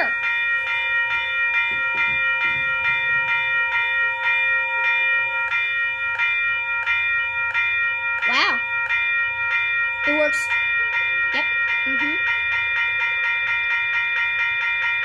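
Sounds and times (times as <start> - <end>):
electronic bell dinging: 0.0 - 15.0.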